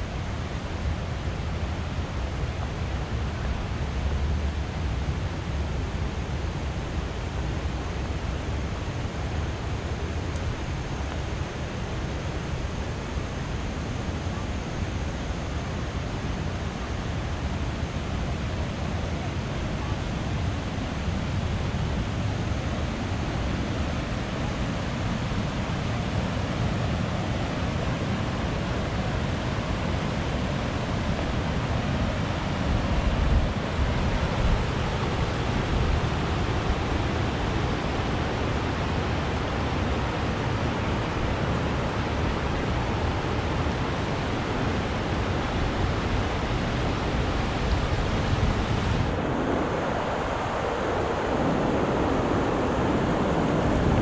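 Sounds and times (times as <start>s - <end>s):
fast-flowing water rushing: 4.5s - 54.0s.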